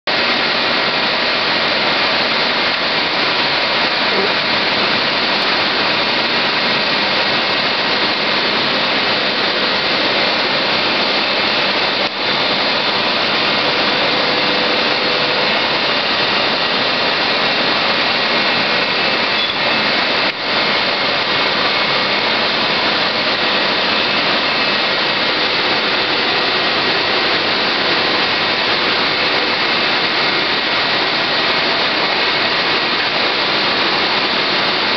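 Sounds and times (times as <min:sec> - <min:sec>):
foam-cutting machine hissing: 0:00.1 - 0:34.9.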